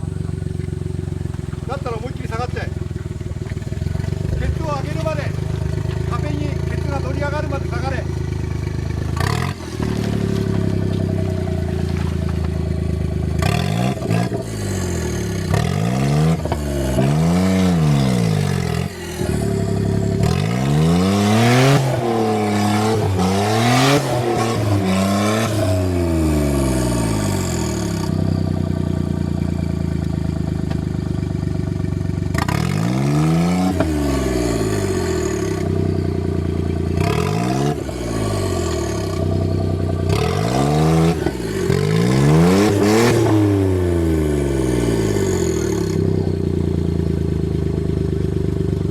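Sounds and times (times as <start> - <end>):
small engine revving: 0.0 - 48.9.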